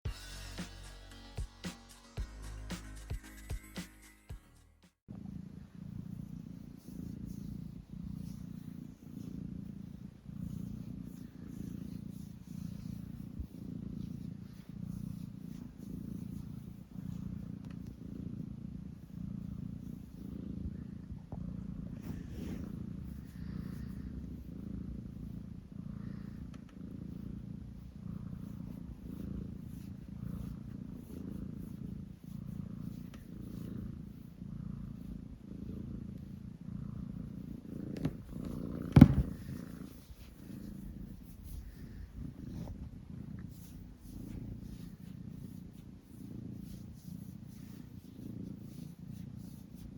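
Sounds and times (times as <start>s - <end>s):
cat purring: 5.1s - 49.9s.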